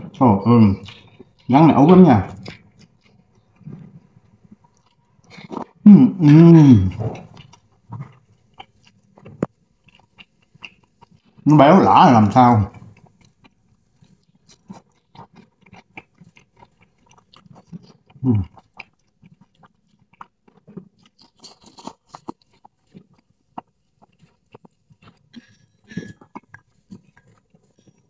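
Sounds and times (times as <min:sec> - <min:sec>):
chewing with wet smacking: 0:00.8 - 0:01.6, 0:02.2 - 0:05.8, 0:06.9 - 0:11.5, 0:12.3 - 0:28.0.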